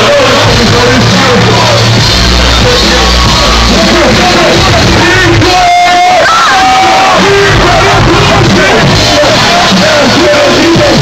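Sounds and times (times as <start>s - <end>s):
crowd singing and shouting: 0.0s - 11.0s
loud hip-hop music: 0.0s - 11.0s.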